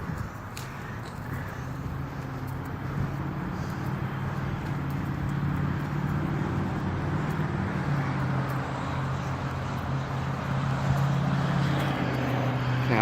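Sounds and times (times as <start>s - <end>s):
outdoor noise: 0.0s - 13.0s
vehicle engine humming: 0.0s - 13.0s.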